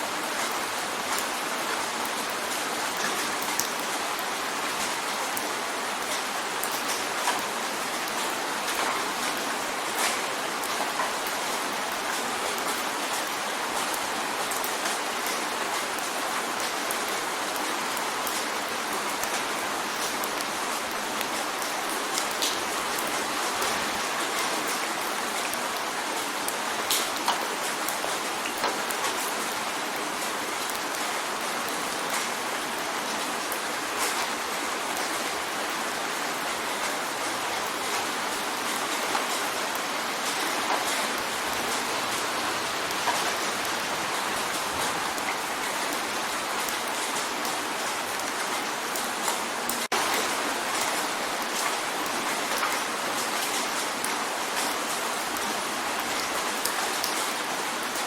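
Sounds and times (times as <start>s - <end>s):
rain pattering on a window: 0.0s - 58.0s.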